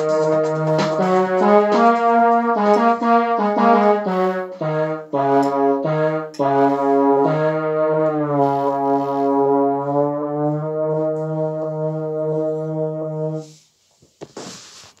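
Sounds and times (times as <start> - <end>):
held brass-like chord: 0.0 - 13.5.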